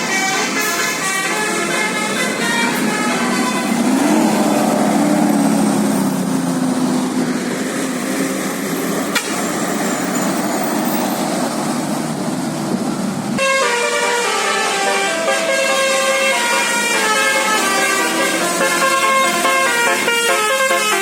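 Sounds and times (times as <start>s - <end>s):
bus engine: 0.0s - 21.0s
road noise: 0.0s - 21.0s.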